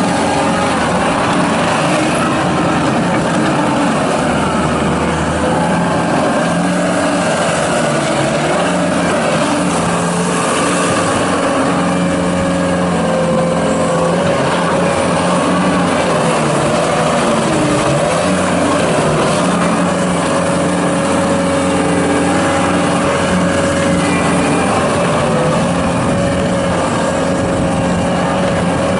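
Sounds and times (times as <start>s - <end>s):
skid steer diesel engine running: 0.0s - 28.9s.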